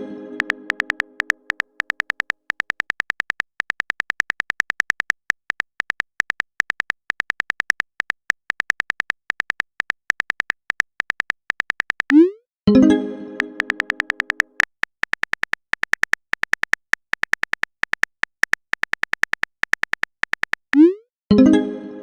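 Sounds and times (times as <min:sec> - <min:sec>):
typing clicks with high beeps: 0:00.4 - 0:12.4, 0:13.4 - 0:21.0.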